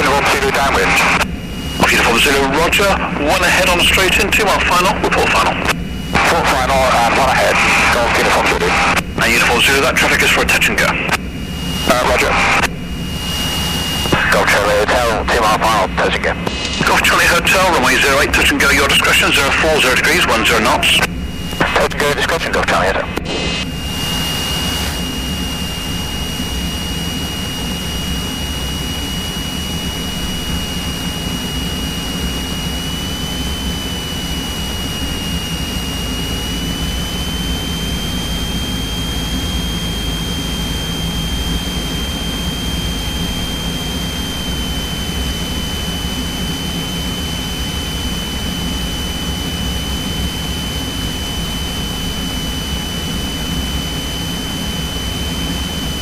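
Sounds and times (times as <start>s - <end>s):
propeller plane engine droning: 0.0s - 56.0s
thin high whine: 0.0s - 56.0s.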